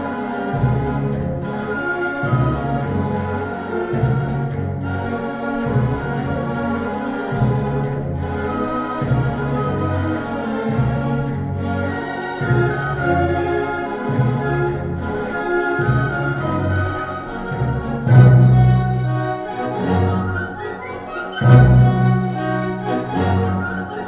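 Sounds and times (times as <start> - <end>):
orchestral music through speakers: 0.0 - 24.0.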